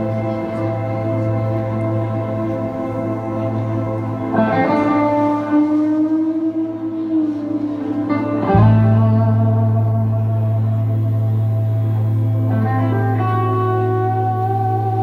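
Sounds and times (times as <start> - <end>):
live band playing guitars: 0.0 - 15.0.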